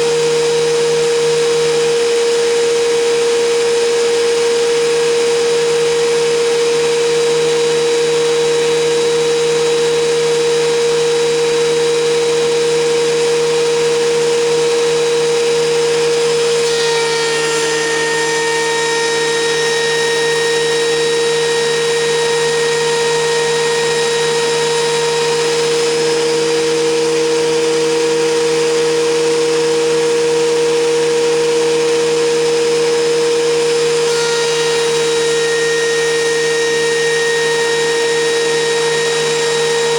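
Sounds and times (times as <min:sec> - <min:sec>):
thickness planer motor whine: 0:00.0 - 0:39.9.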